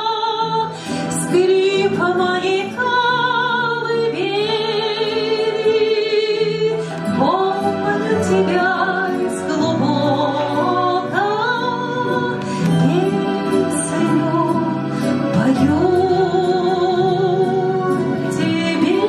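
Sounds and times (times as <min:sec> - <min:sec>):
instrumental accompaniment: 0:00.0 - 0:19.0
woman singing with vibrato: 0:00.0 - 0:19.0.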